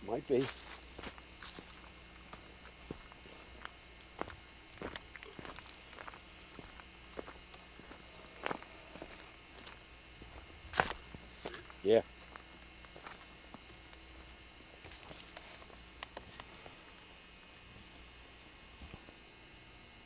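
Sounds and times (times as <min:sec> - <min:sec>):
footsteps crackling through brush: 0:00.2 - 0:19.2.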